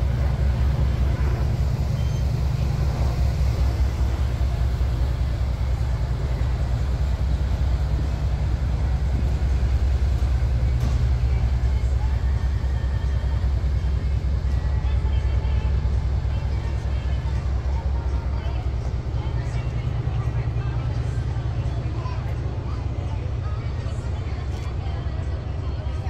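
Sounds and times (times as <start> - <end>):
speedboat engines rumbling: 0.0 - 26.0.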